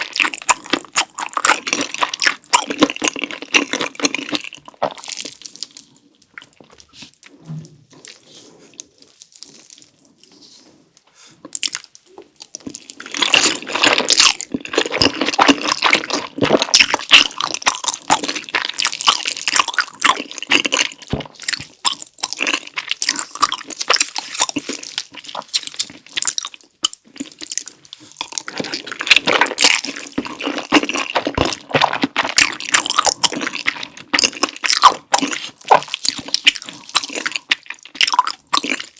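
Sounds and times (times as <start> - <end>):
wet chewing and smacking: 0.0 - 10.5, 11.4 - 38.9.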